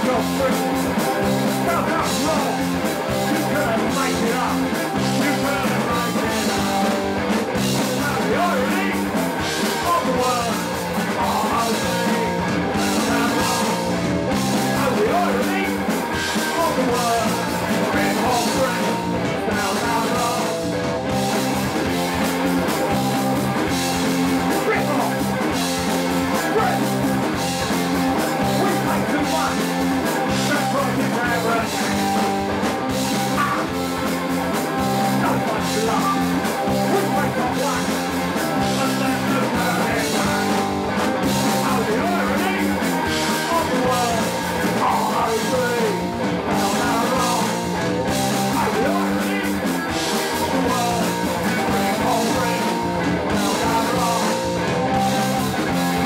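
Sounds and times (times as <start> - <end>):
punk rock band playing live: 0.0 - 56.0.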